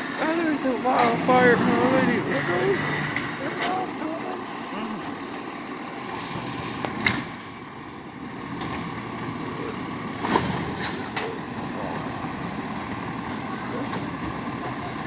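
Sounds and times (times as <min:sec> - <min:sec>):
garbage truck engine idling: 0:00.0 - 0:15.0.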